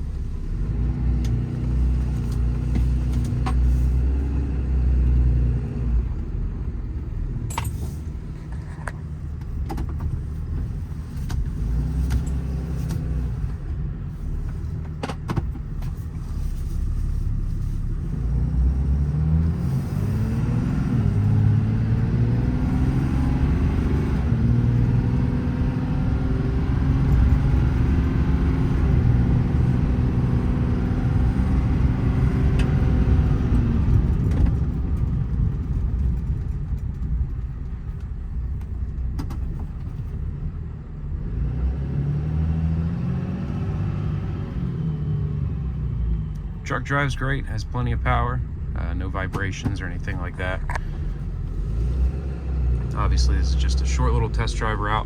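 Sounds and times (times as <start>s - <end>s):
diesel truck engine: 0.0s - 55.0s.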